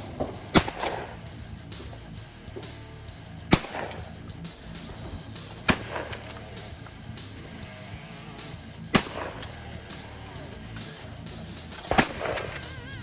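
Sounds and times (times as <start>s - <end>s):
shotgun shots: 0.0s - 2.0s, 3.5s - 13.0s
rock music: 0.0s - 13.0s.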